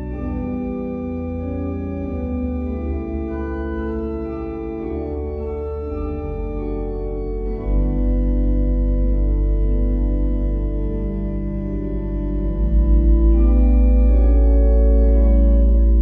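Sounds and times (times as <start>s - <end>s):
church organ held chords: 0.0s - 16.0s
deep organ bass pedal note: 0.0s - 16.0s.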